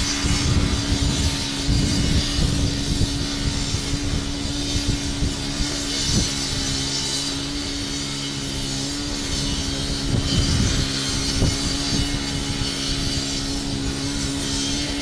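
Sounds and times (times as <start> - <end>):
small engine humming steadily: 0.0 - 15.0.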